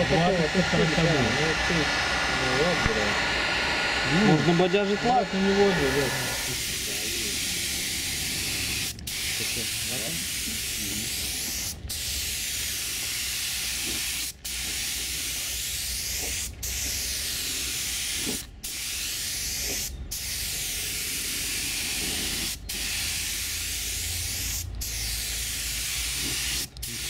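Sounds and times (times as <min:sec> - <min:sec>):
spray gun air hissing: 0:00.0 - 0:27.0.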